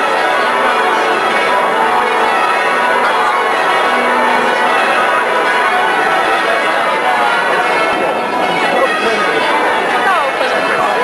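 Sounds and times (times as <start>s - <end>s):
church bells ringing a peal: 0.0s - 11.0s.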